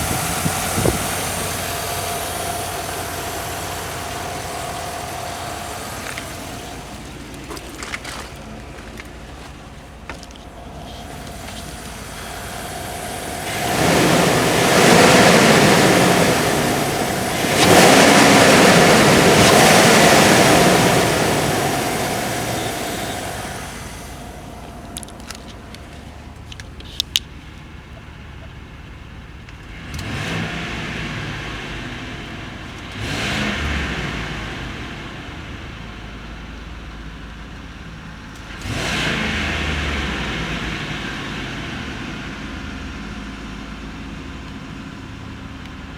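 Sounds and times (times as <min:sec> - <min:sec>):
engine idling and revving: 0:00.0 - 0:45.9.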